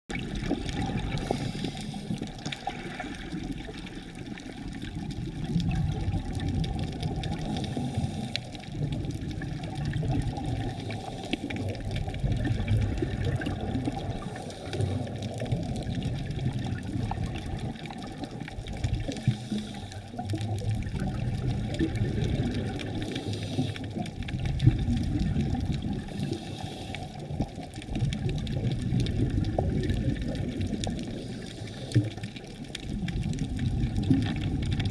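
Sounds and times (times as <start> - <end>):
underwater bubbles gurgling: 0.1 - 34.9.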